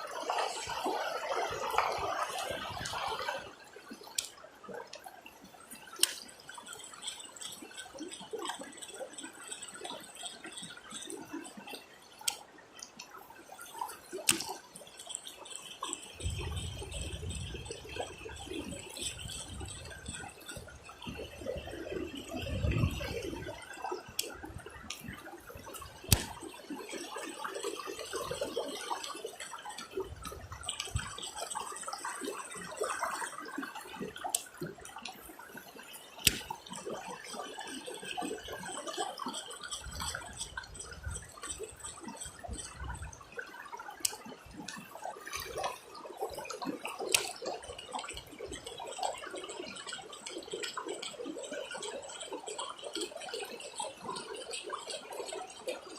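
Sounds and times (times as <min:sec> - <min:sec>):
river water flowing fast: 0:00.0 - 0:55.9.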